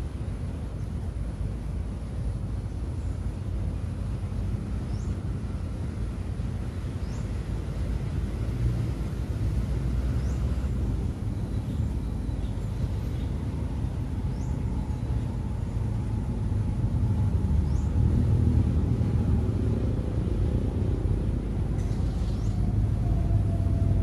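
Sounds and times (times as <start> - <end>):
distant road traffic rumble: 0.0 - 24.0.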